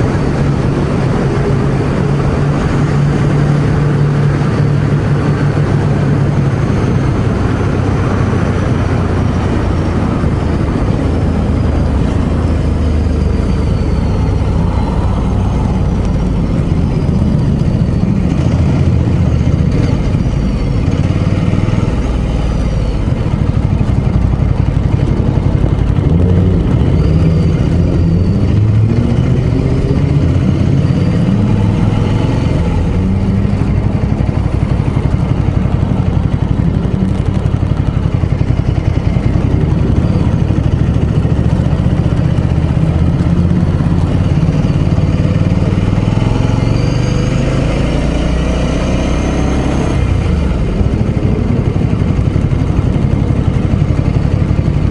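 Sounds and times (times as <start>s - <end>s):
motorcycle engine pulling away: 0.0s - 54.9s.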